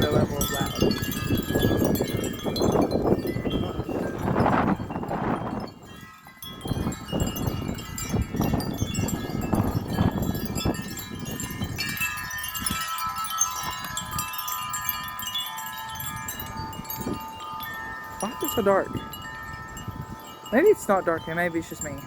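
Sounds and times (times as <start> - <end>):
wind chimes ringing: 0.0 - 22.0
wind gusts on microphone: 0.0 - 22.0.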